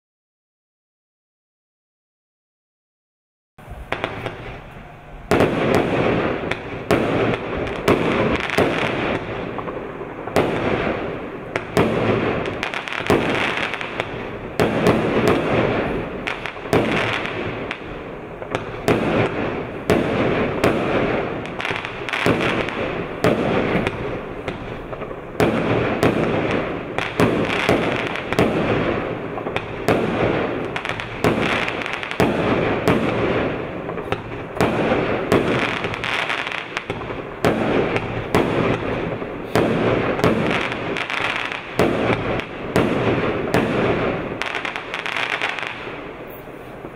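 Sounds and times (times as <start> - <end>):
firework bangs: 3.6 - 46.9
steady background noise: 3.6 - 46.9.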